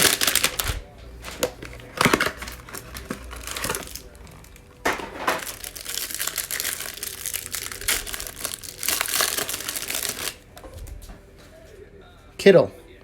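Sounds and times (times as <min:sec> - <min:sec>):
packaging crinkling and tearing: 0:00.0 - 0:10.6.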